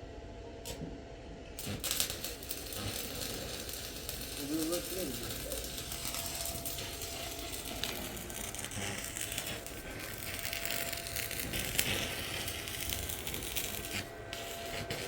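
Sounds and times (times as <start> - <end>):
crackling sizzling noise: 1.6 - 15.0.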